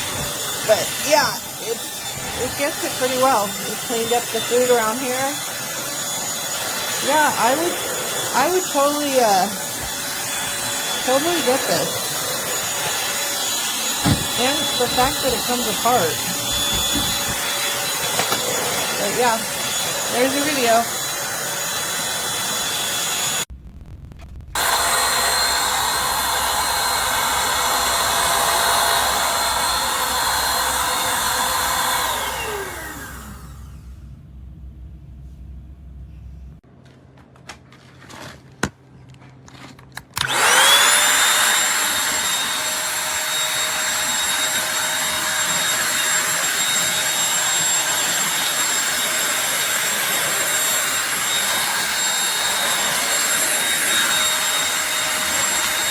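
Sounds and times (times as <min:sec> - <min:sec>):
vacuum motor whine: 0:00.0 - 0:23.4, 0:24.6 - 0:35.0, 0:40.2 - 0:55.9.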